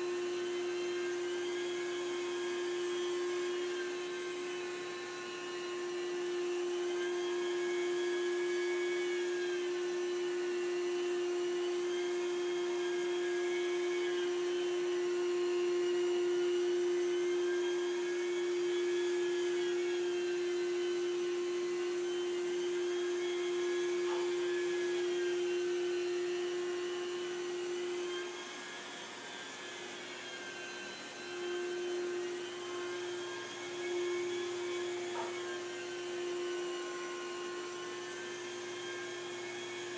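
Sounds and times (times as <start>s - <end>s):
carpet extraction machine running: 0.0s - 39.9s.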